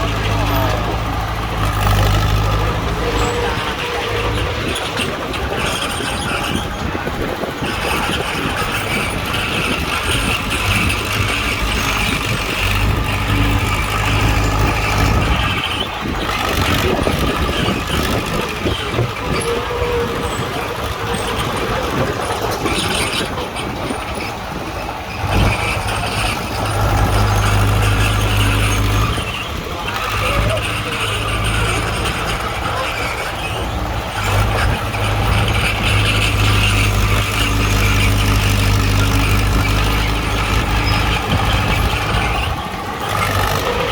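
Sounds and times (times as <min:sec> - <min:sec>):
bulldozer diesel engine under load: 0:00.0 - 0:43.9.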